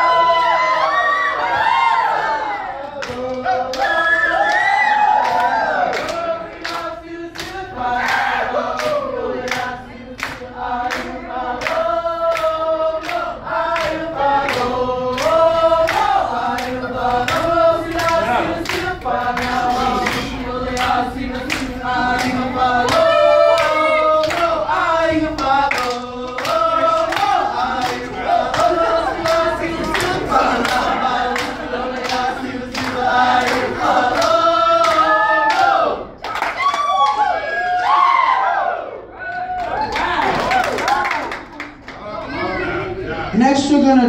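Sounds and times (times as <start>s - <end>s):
group singing in unison: 0.0s - 36.5s.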